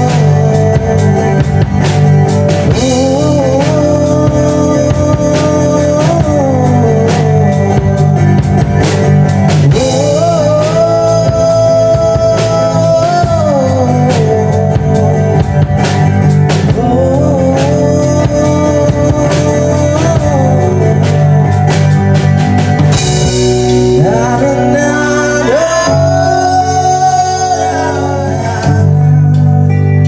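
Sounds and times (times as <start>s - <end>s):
person singing: 0.0s - 22.1s, 22.9s - 30.0s
steady drum beat: 0.0s - 29.7s
live band playing: 0.0s - 30.0s.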